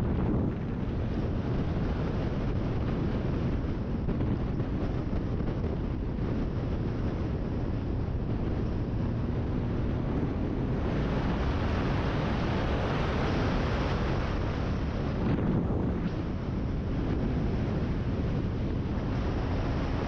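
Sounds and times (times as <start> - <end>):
motorcycle engine at speed: 0.0 - 20.0
wind buffeting microphone: 0.0 - 20.0.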